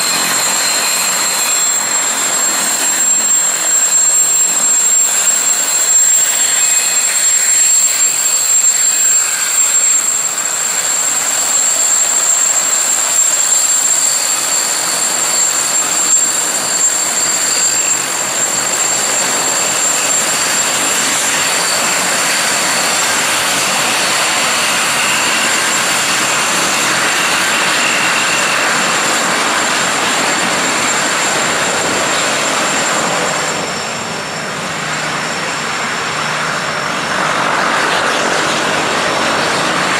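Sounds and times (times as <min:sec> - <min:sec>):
propeller rush: 0:00.0 - 0:39.9
turbine whine: 0:00.0 - 0:39.9.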